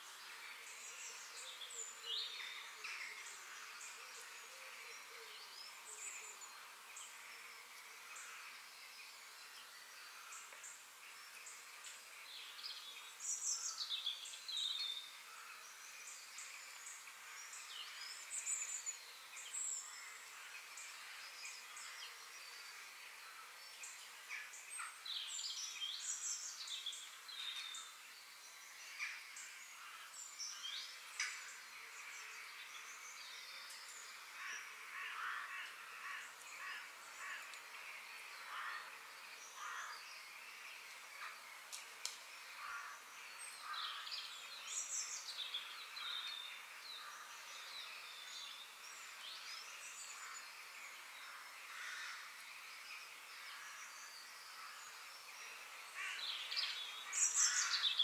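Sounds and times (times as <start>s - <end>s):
birds chirping and singing: 0.0s - 58.0s
faint steady hiss: 0.0s - 58.0s.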